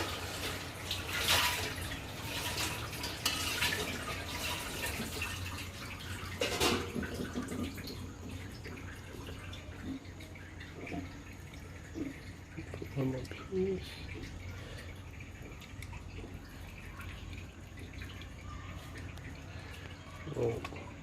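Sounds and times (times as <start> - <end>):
liquid sloshing and dripping: 0.0 - 21.0.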